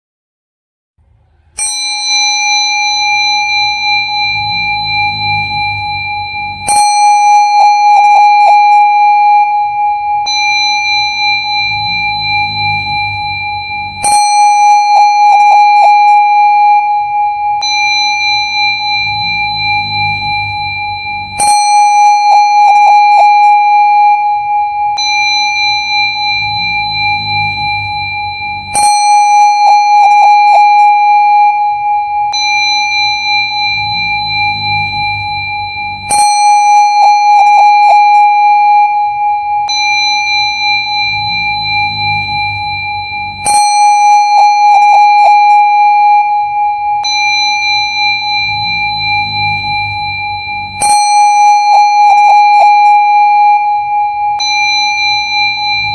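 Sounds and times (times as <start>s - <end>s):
high-pitched tone: 1.0s - 55.9s
singing bowl ringing: 1.0s - 55.9s.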